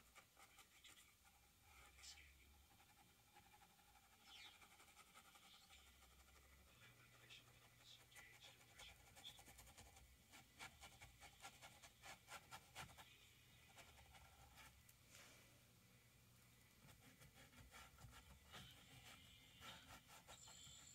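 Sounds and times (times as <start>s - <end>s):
paintbrush scratching on canvas: 0.0s - 13.1s, 16.8s - 20.9s.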